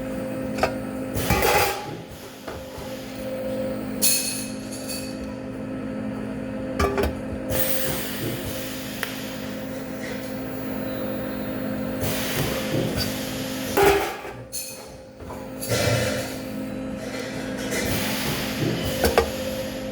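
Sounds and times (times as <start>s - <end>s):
welding equipment hum: 0.0s - 19.9s.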